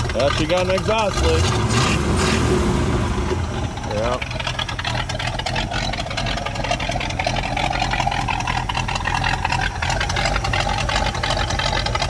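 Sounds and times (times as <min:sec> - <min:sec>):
exhaust leak ticking: 0:00.0 - 0:12.0
truck engine idling: 0:00.0 - 0:12.0.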